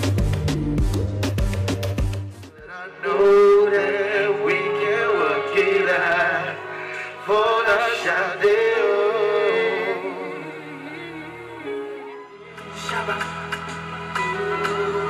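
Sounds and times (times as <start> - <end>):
backing track of held chords: 0.0 - 15.0
man singing: 2.5 - 15.0.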